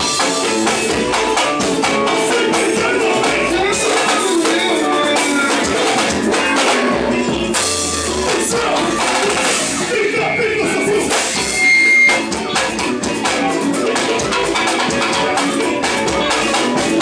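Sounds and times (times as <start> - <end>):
drums: 0.0 - 17.0
person singing: 0.0 - 17.0.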